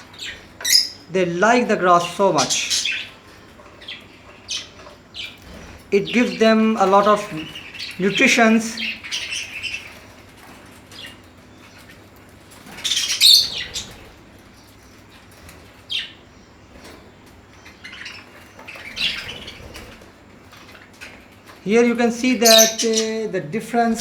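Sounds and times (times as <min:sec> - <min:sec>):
parakeets chirping: 0:00.0 - 0:24.0
wings fluttering: 0:00.0 - 0:24.0.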